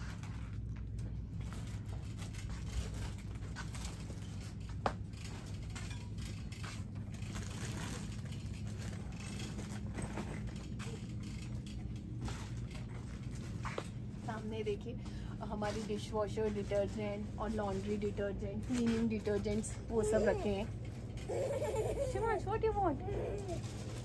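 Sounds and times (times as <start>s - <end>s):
items scraping and rustling: 0.0s - 14.8s, 15.4s - 24.0s
low hum of shop background: 0.0s - 24.0s.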